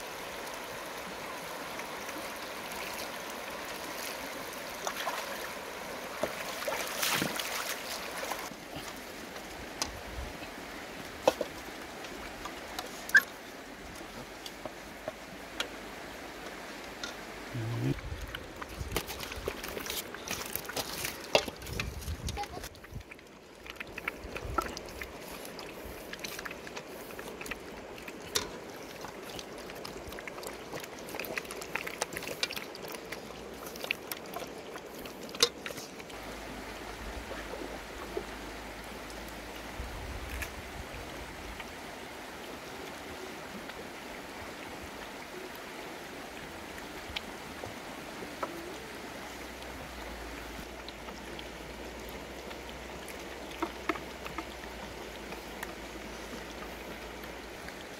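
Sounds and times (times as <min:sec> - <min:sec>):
flowing river water: 0:00.0 - 0:57.9
puppies eating at a trough: 0:08.5 - 0:57.9.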